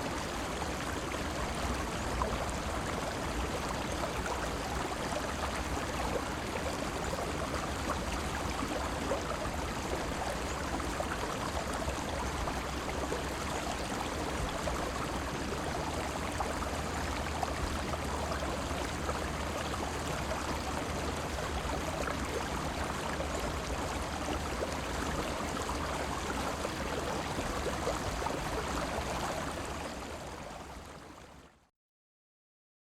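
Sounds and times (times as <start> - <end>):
river water flowing: 0.0 - 31.5.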